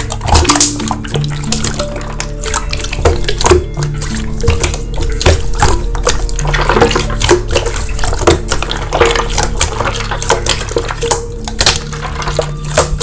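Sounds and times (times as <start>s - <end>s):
background music with held notes: 0.0s - 13.0s
slime squeezed by hand: 0.0s - 13.0s.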